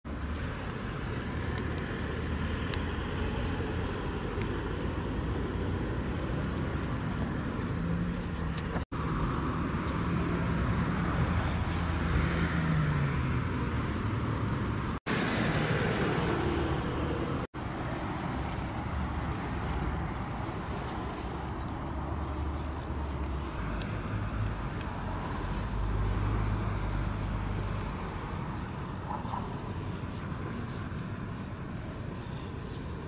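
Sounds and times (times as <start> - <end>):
distant road traffic rumble: 0.0 - 33.0.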